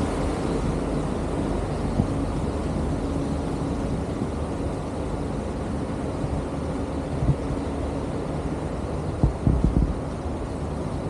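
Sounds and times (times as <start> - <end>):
water rushing: 0.0 - 10.9
ship engine drone: 0.0 - 11.0
wind: 0.0 - 11.0.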